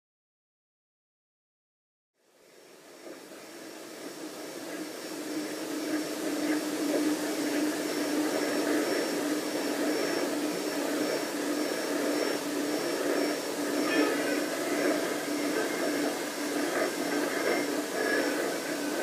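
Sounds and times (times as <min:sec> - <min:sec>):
radio static hiss: 0:02.2 - 0:19.0.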